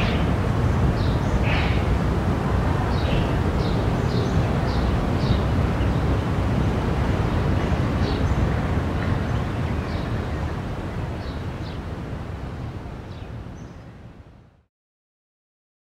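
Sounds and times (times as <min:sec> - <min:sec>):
low street rumble: 0:00.0 - 0:14.3.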